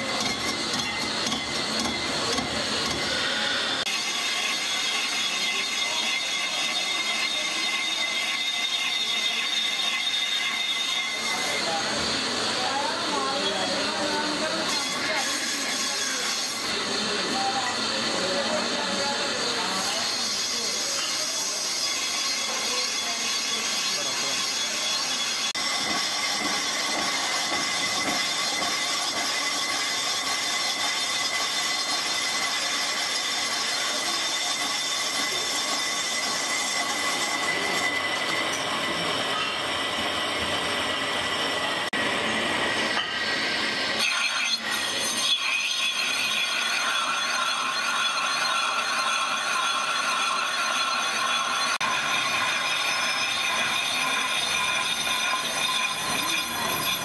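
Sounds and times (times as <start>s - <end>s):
high-pitched cutting tool ringing: 0.0s - 57.0s
lathe running: 0.0s - 57.0s.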